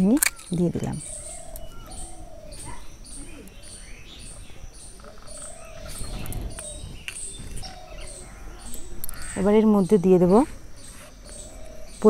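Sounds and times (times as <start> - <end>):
low warbling bird calls: 0.0 - 12.0
small birds chirping: 0.0 - 12.0.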